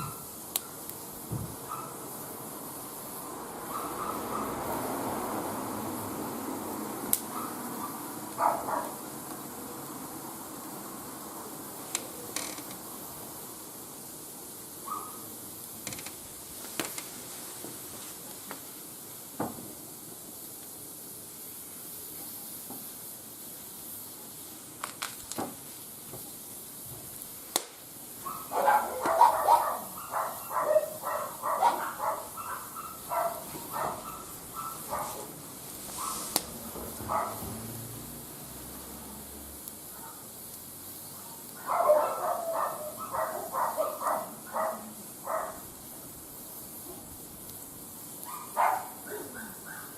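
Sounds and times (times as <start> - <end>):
wood fire hissing and crackling: 0.0 - 49.9.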